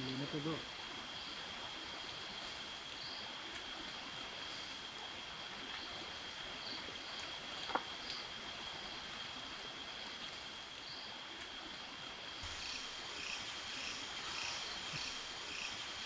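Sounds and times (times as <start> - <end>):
night insects trilling: 0.0 - 16.0
soft hiss: 0.0 - 16.0.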